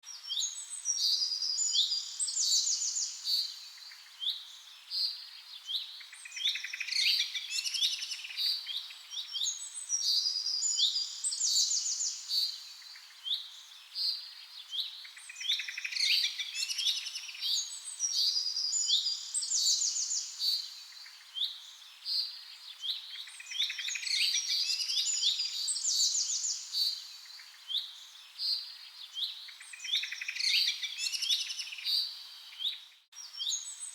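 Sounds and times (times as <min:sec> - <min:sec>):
small birds chirping and trilling: 0:00.1 - 0:33.9.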